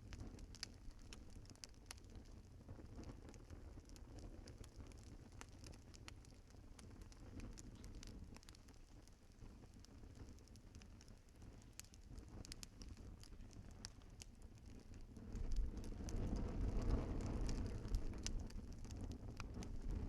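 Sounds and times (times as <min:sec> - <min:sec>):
low rushing of flames: 0:00.0 - 0:20.0
wood fire crackling and popping: 0:00.0 - 0:20.0.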